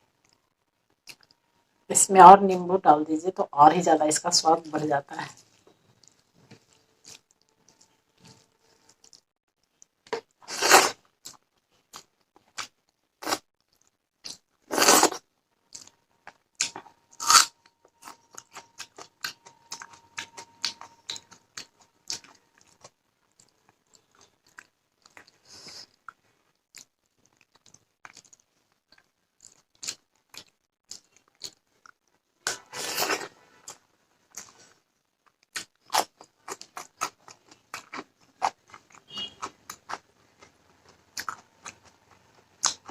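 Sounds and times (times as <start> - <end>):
soft chewing: 0.1 - 1.6, 5.3 - 42.9.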